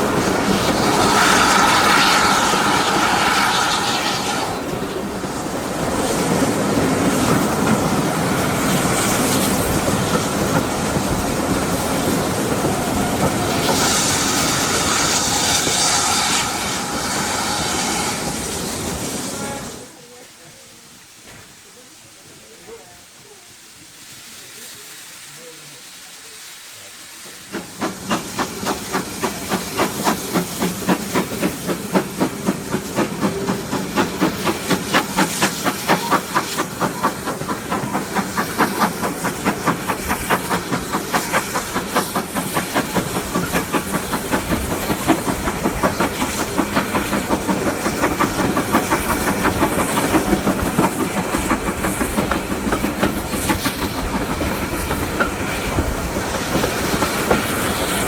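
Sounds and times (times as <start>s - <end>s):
carriages clacking on rails: 0.0s - 20.0s, 27.2s - 58.0s
steam locomotive exhaust beat: 0.0s - 20.0s, 24.0s - 58.0s
steam hissing: 0.0s - 58.0s.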